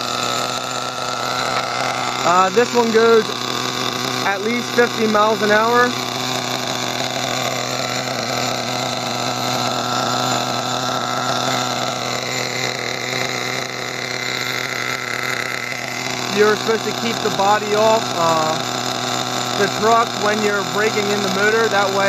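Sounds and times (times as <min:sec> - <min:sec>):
model nitro engine idling: 0:00.0 - 0:22.0.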